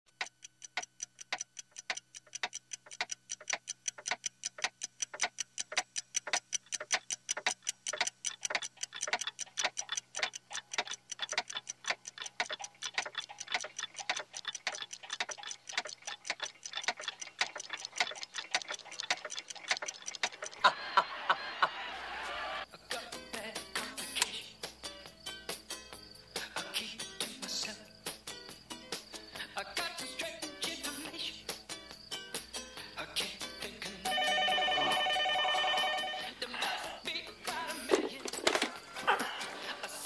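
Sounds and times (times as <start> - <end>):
clocks ticking: 0.1 - 21.8, 28.0 - 39.7.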